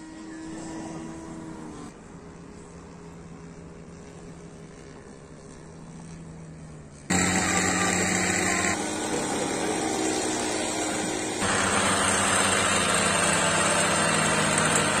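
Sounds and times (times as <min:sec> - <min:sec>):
model aircraft engine running: 0:00.0 - 0:15.0.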